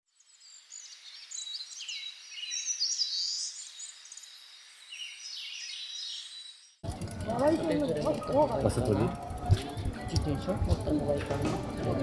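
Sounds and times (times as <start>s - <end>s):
songbirds chirping and trilling: 0.2s - 11.8s.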